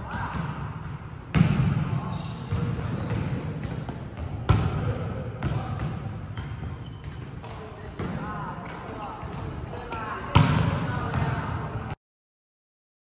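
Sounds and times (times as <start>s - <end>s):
volleyballs slapping and bouncing: 0.0s - 12.0s.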